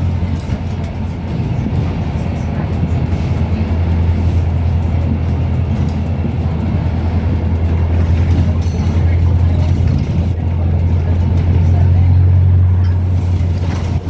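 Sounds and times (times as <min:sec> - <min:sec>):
bus engine drone: 0:00.0 - 0:14.0
road and body noise: 0:00.0 - 0:14.0.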